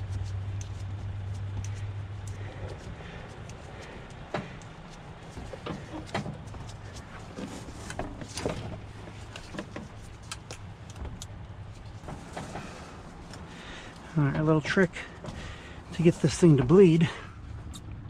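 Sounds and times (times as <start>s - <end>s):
steady low hum: 0.0s - 18.0s
clicks and knocks of hose fittings: 0.2s - 16.8s.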